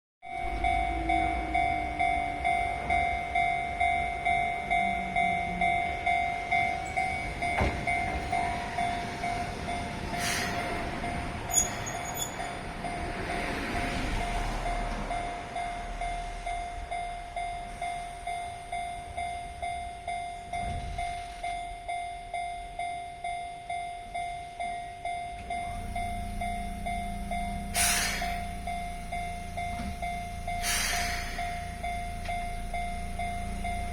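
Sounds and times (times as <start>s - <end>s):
level-crossing warning bell: 0.2s - 33.9s
train passing: 0.2s - 33.9s.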